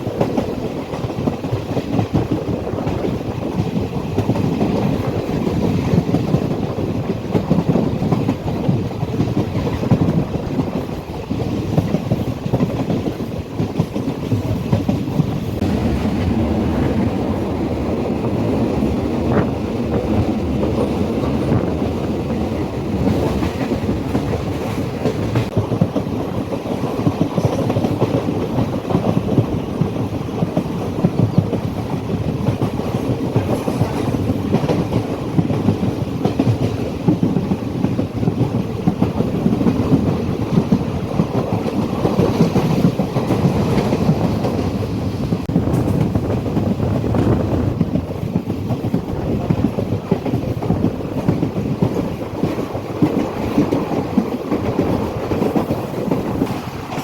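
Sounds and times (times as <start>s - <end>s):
train rumbling on track: 0.0s - 57.0s
wheels clicking over rail joints: 0.0s - 57.0s.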